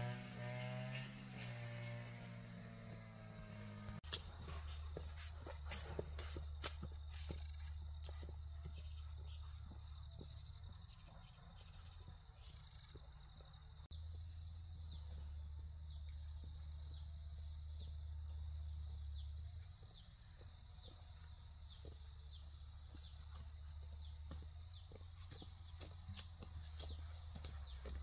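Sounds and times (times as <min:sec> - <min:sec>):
footsteps on dirt path: 0:00.4 - 0:28.0.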